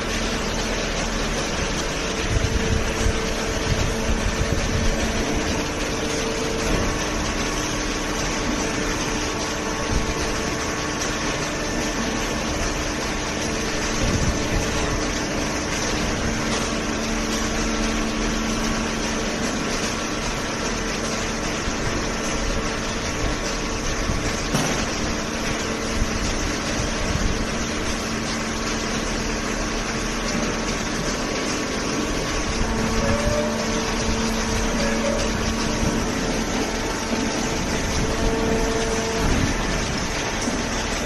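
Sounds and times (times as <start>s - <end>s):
hydraulic baler machine hum: 0.0s - 41.0s.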